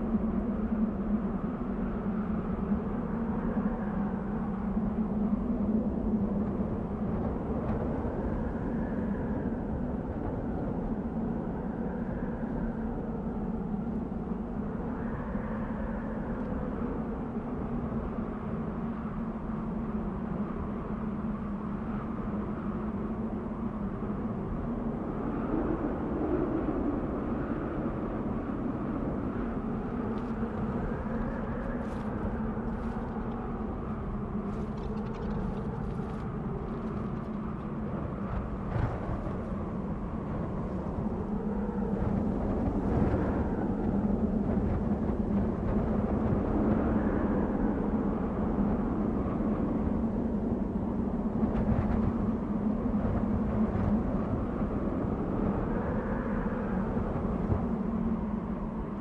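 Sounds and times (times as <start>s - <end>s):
wind blowing with whistle: 0.0s - 59.0s.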